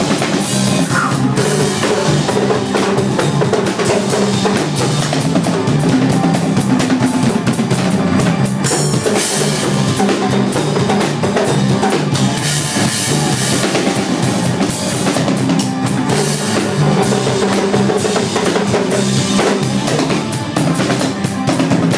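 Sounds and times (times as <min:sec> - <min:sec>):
band holding low notes: 0:00.0 - 0:21.9
drums and cymbals: 0:00.0 - 0:21.9.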